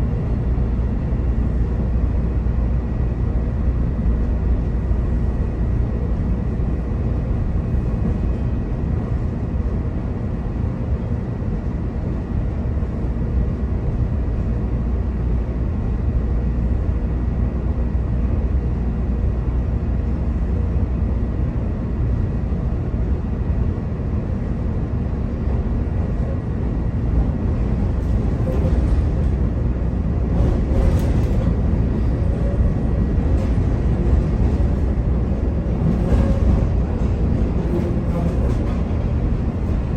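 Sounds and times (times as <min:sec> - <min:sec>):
train rattles and clatter: 0:00.0 - 0:39.9
train wheels rumbling on rail: 0:00.0 - 0:39.9.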